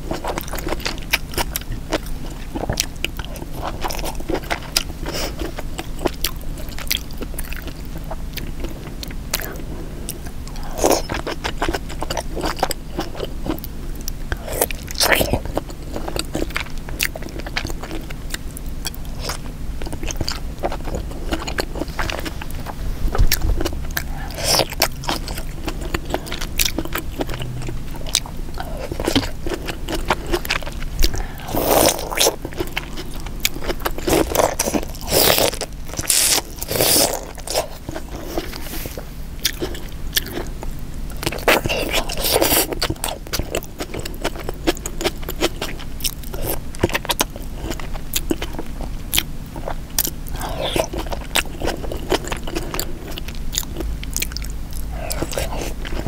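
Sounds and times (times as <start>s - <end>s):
close chewing and mouth smacks: 0.0s - 56.0s.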